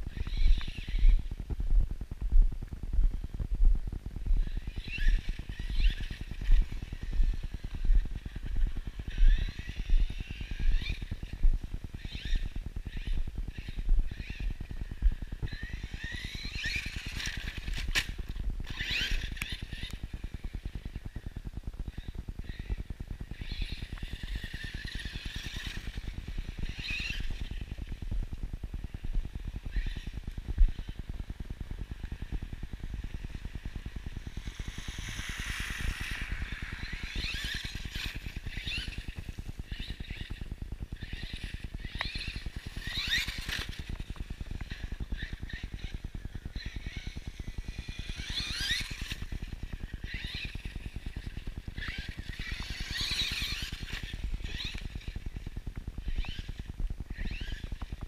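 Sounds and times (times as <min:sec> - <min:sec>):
steady low rumble: 0:00.0 - 0:53.0
electric motor whining: 0:04.3 - 0:21.2, 0:21.9 - 0:58.0.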